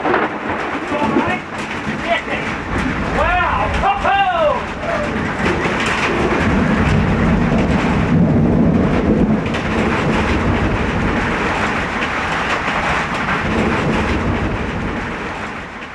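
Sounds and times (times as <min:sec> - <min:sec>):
heavy rain hissing: 0:00.0 - 0:15.9
thunder rumbling: 0:00.0 - 0:15.9.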